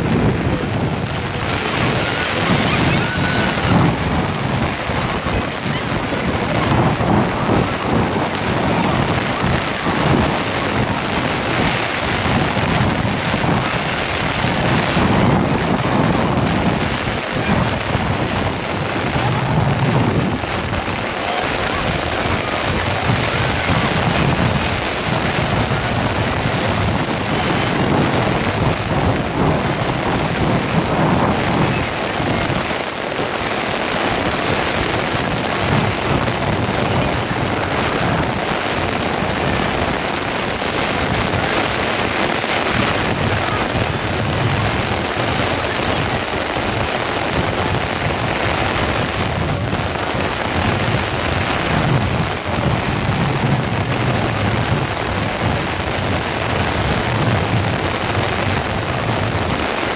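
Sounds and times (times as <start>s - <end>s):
heavy rain pouring: 0.0s - 59.9s
wind rumbling on microphone: 0.0s - 59.9s.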